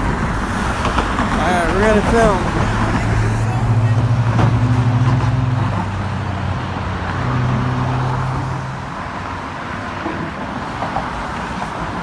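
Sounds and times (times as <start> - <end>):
large vehicle engine hum: 0.0 - 10.3.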